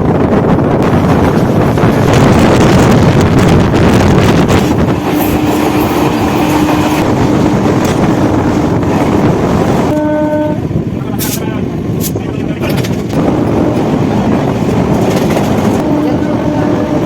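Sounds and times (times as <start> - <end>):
train rumbling and rattling: 0.0 - 17.0
wind buffeting microphone: 0.0 - 17.0.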